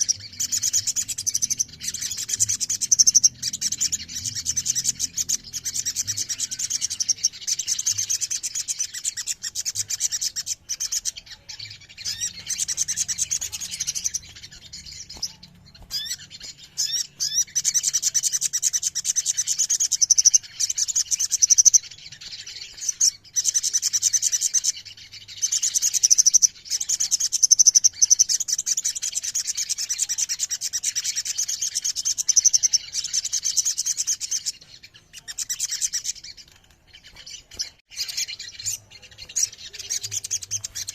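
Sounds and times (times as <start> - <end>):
birds chattering trills: 0.0 - 40.9.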